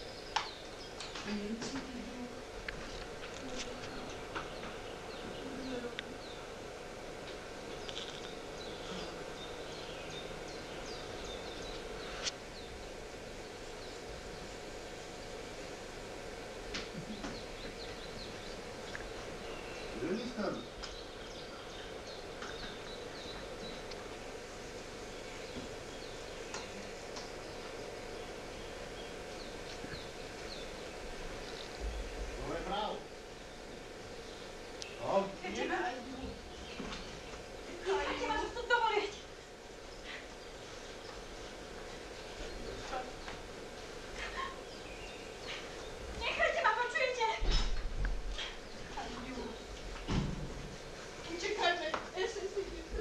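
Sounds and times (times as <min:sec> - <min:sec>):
background hiss: 0:00.0 - 0:53.0.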